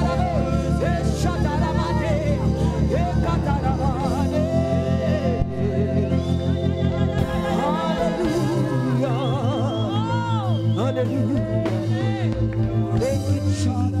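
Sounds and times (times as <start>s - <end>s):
sustained backing chords: 0.0s - 14.0s
woman singing gospel: 0.0s - 14.0s.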